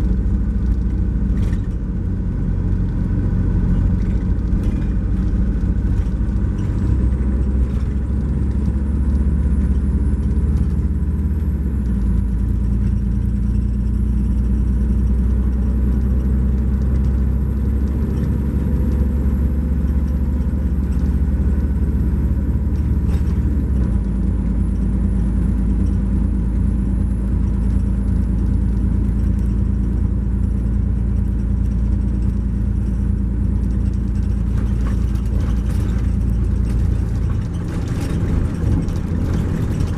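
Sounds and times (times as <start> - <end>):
diesel coach engine running: 0.0 - 39.9.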